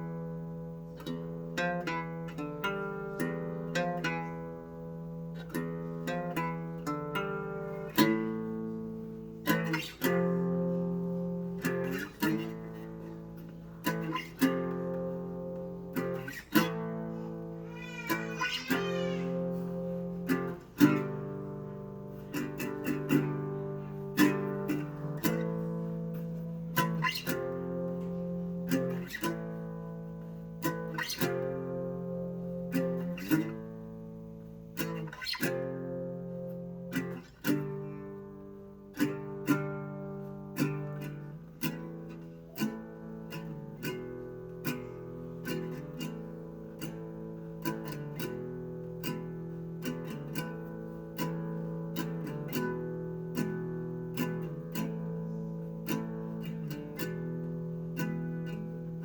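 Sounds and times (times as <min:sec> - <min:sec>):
acoustic guitar playing: 0:00.0 - 0:59.0.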